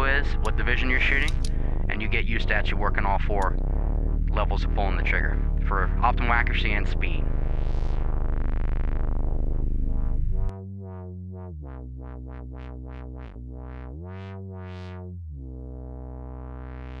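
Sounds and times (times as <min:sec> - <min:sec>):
electronic synthesizer music: 0:00.0 - 0:17.0.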